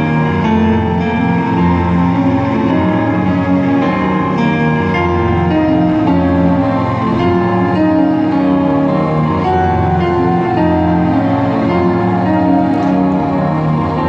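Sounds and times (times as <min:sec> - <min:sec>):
instrumental music of held notes: 0:00.0 - 0:14.0.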